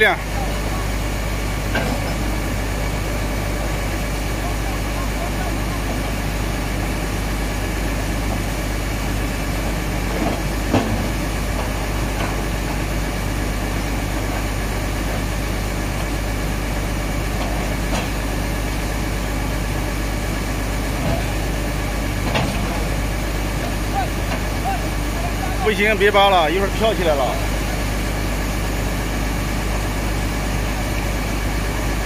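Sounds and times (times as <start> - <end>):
excavator engines running: 0.0 - 32.0.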